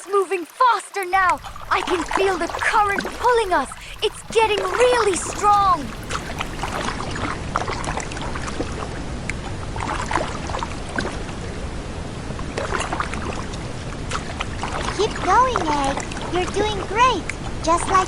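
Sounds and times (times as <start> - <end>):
rushing river water: 0.0 - 18.0
water splashes: 0.0 - 18.0.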